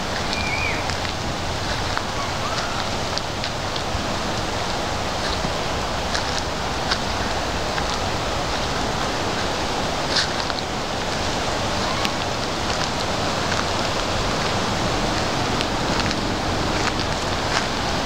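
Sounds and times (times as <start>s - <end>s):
wind rushing through pines: 0.0s - 18.0s.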